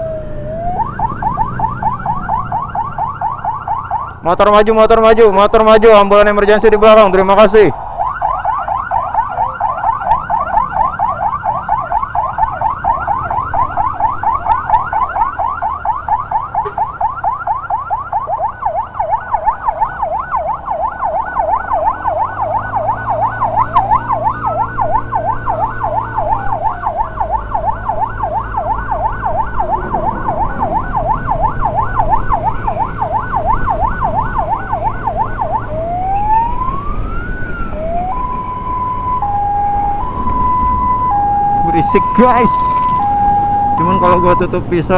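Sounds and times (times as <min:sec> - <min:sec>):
electronic siren: 0:00.0 - 0:44.9.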